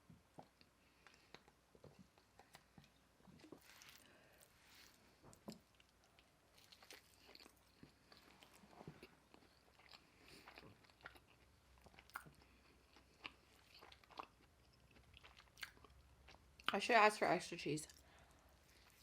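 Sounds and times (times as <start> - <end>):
person chewing food: 0.3 - 16.7, 17.9 - 19.0.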